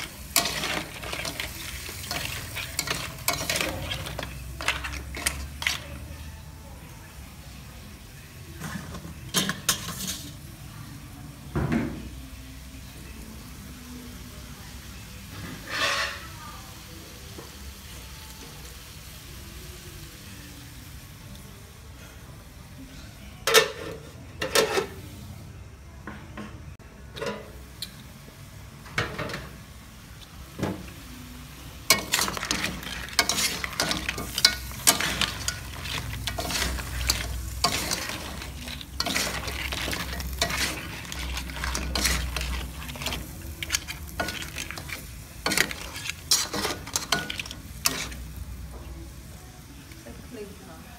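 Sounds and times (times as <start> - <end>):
crab sizzling in a wok: 0.0 - 25.4, 27.4 - 50.9.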